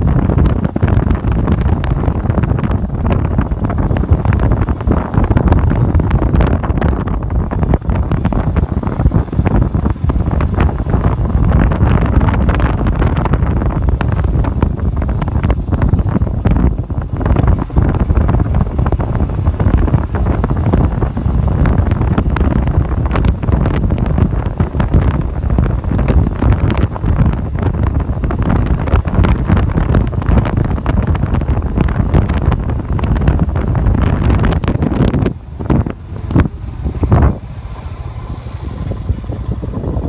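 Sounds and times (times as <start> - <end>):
heavy wind buffeting microphone: 0.0 - 40.0.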